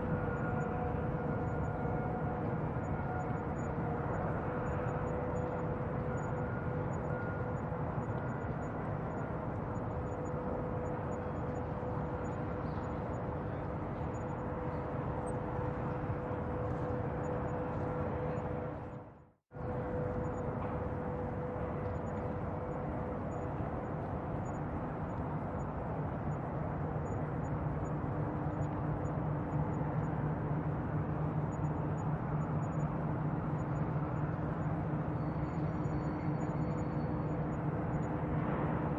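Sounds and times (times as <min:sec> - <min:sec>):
droning hum: 0:00.0 - 0:38.9.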